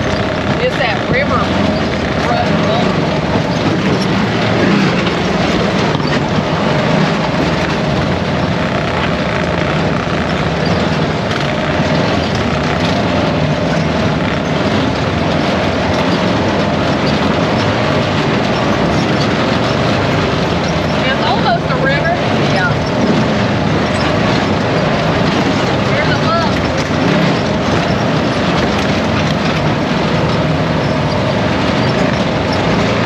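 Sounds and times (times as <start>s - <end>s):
atv engine running: 0.0s - 33.0s
machine rattle: 0.0s - 33.0s.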